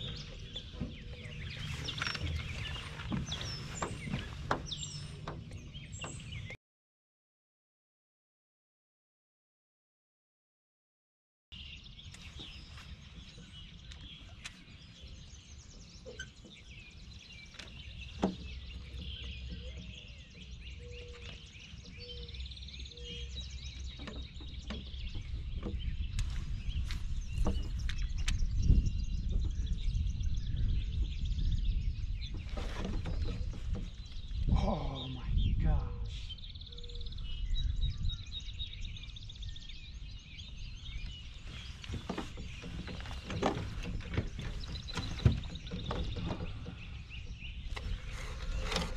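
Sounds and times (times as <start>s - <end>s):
birds chirping and singing: 0.0s - 6.6s, 11.6s - 48.9s
wind rumble on microphone: 0.0s - 6.6s, 11.6s - 48.9s.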